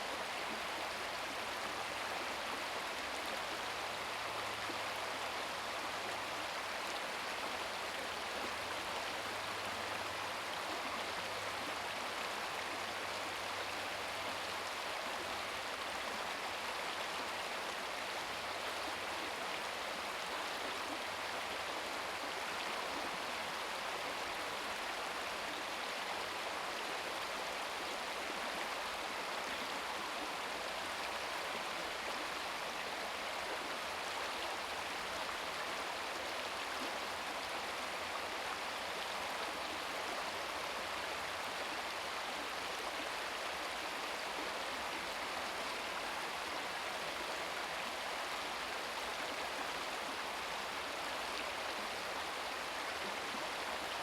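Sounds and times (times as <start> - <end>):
stream water gurgling over rocks: 0.0 - 54.0.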